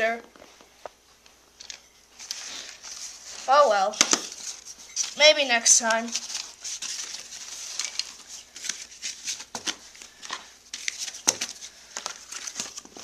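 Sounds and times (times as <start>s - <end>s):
cardboard and plastic rustling: 1.6s - 13.0s.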